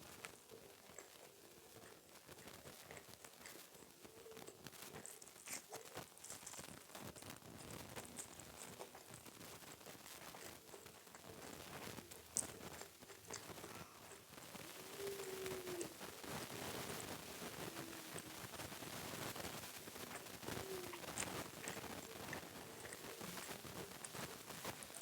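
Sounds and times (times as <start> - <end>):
soft chewing: 0.0 - 25.0.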